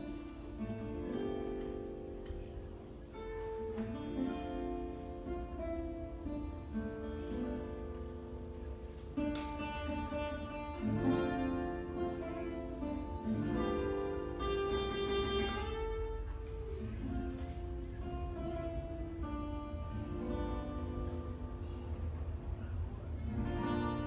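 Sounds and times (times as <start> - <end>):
classical guitar solo: 0.0 - 24.0.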